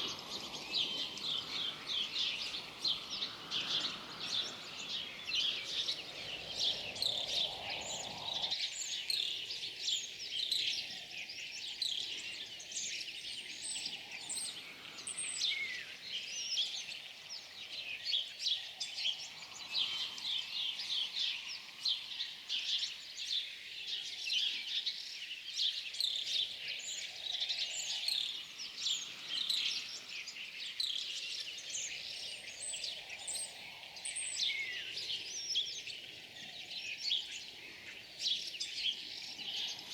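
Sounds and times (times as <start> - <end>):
soft wind-like hiss: 0.0 - 39.9
songbirds chirping and trilling: 0.0 - 39.9.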